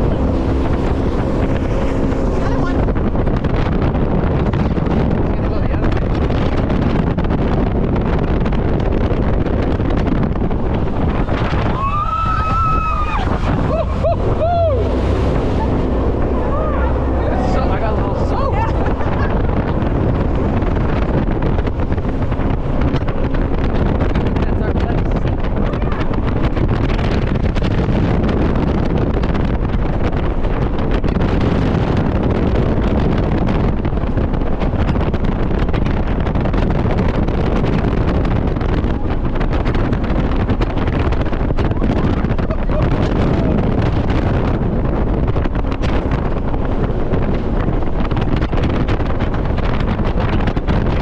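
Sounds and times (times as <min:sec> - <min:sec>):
jet boat running at speed: 0:00.0 - 0:51.0
wind buffeting microphone: 0:00.0 - 0:51.0.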